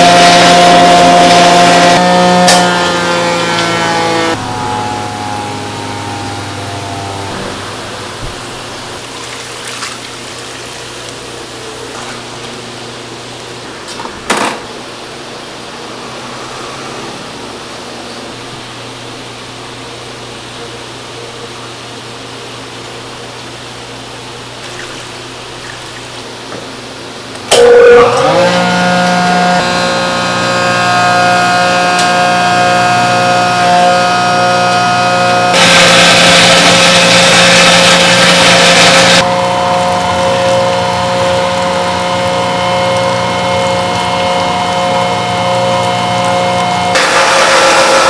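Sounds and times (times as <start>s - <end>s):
machine whine: 0.0s - 20.6s, 27.3s - 48.0s
workshop machinery motor hum: 0.0s - 48.0s.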